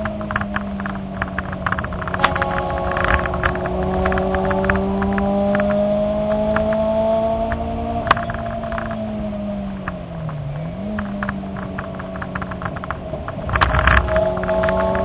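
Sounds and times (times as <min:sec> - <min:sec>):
car engine from inside cabin: 0:00.0 - 0:15.0
interior rattles and clicks: 0:00.0 - 0:15.0
rough rumbling noise: 0:00.0 - 0:15.0.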